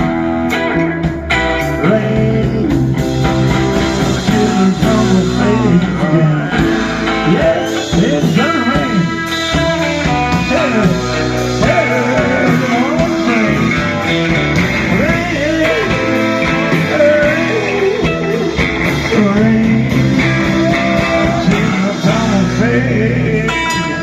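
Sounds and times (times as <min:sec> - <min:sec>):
blues rock band playing: 0:00.0 - 0:24.0
guitar lead with bending notes: 0:00.0 - 0:24.0
person singing: 0:01.5 - 0:24.0.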